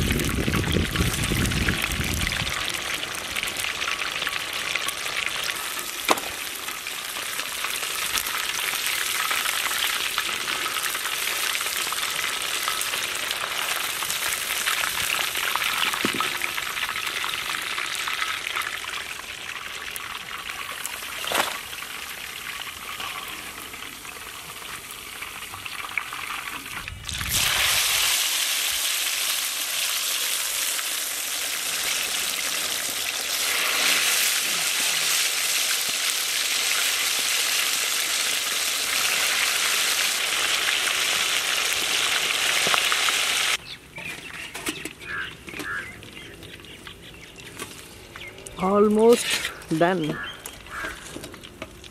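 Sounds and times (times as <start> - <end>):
chicken deep-frying in oil: 0.0 - 51.9.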